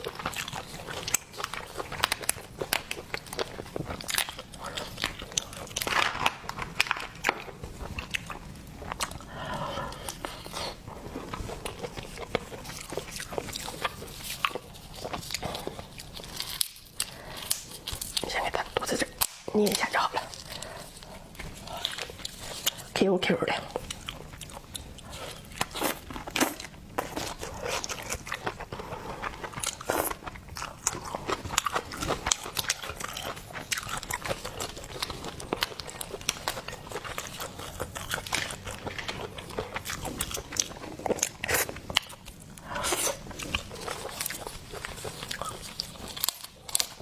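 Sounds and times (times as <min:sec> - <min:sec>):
chewing shellfish crunches: 0:00.0 - 0:23.0, 0:23.7 - 0:47.0.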